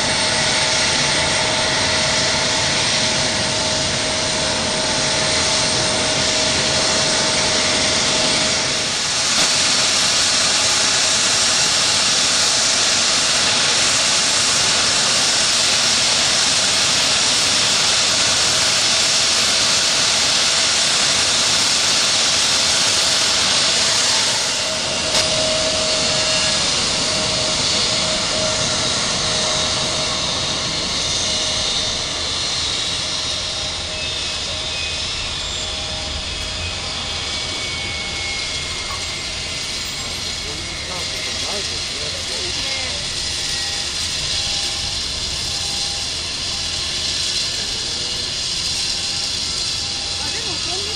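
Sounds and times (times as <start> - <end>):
jet engines hiss and whistle: 0.0 - 50.9.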